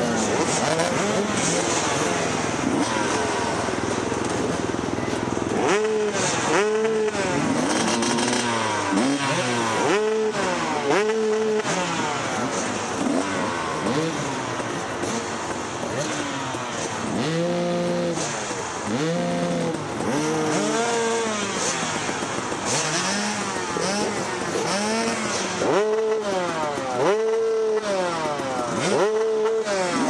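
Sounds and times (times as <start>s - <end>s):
dirt bike engine revving: 0.0s - 30.0s
other motorbike engines: 0.0s - 30.0s.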